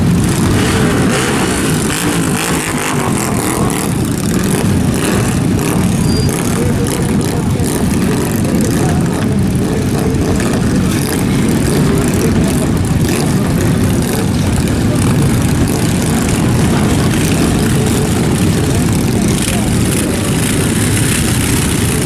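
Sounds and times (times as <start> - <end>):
motorcycle engines running: 0.0 - 22.0.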